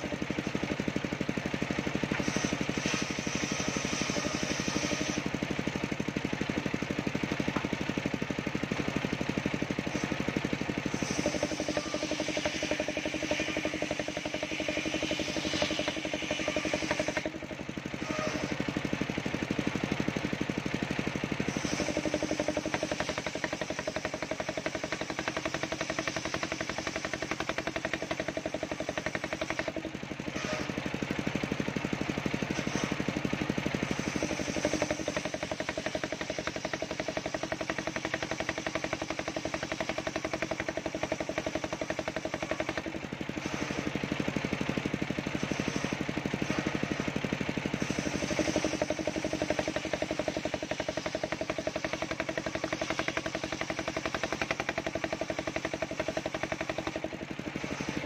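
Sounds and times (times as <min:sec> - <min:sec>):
engine pulsing: 0:00.0 - 0:58.0
saw blade cutting wood: 0:00.0 - 0:58.0.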